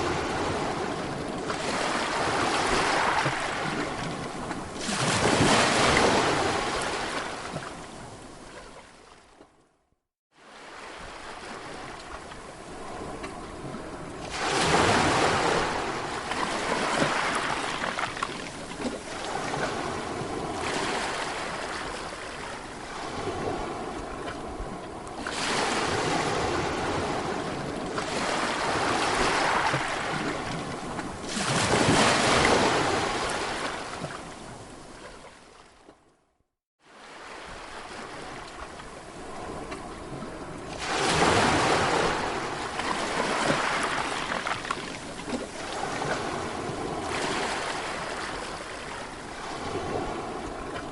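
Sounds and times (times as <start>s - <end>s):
sea waves breaking on shore: 0.0s - 9.6s, 10.3s - 36.1s, 36.8s - 50.9s.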